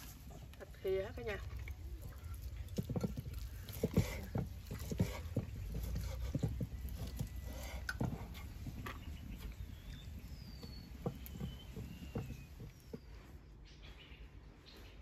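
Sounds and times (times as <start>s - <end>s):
birds chirping: 0.0s - 15.0s
low rumbling handling noise: 0.0s - 15.0s.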